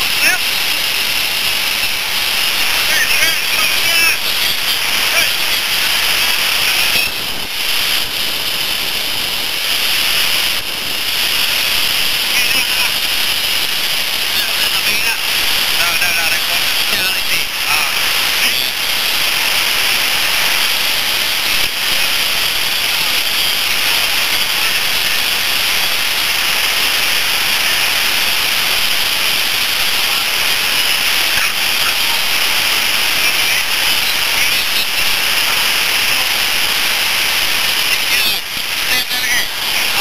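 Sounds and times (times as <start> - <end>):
loud high-pitched hiss: 0.0 - 40.0.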